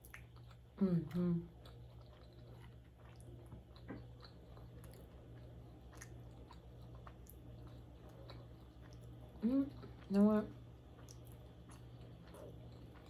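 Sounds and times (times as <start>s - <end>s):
chewing with mouth clicks: 0.0s - 13.0s
steady low hum: 0.0s - 13.0s.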